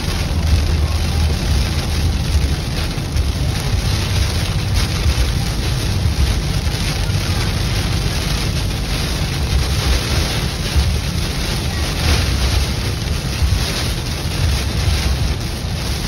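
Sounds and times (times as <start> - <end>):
low car rumble: 0.0 - 16.0
rain hitting windshield and roof: 0.0 - 16.0
tyres hissing on wet road: 0.0 - 16.0.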